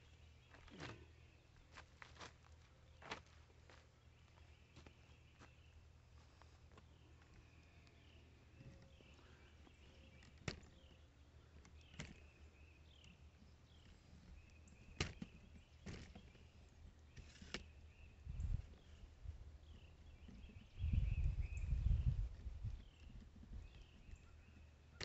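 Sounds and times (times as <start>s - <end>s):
faint bird chirps: 4.0s - 25.0s.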